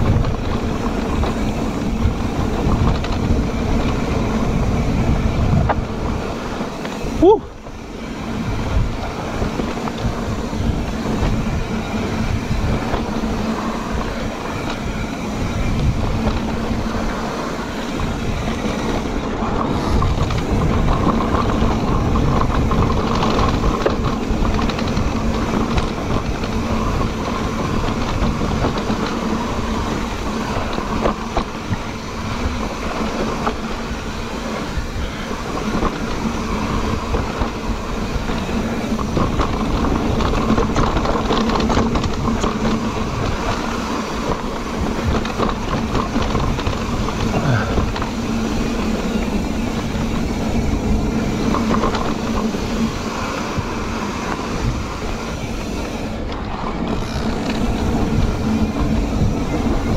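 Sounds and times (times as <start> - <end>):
bike frame rattling: 0.0 - 59.9
bike tyres rumbling on dirt: 0.0 - 59.9.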